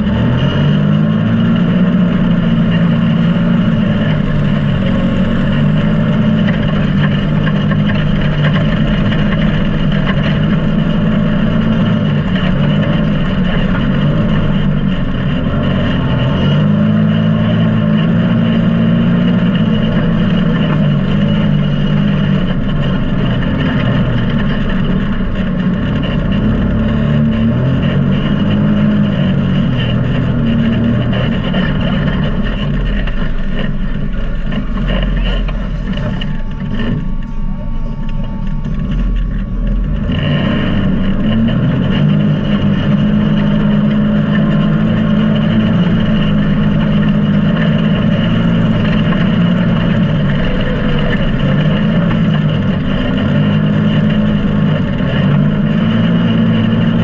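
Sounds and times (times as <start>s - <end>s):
engine running hard: 0.0s - 57.0s.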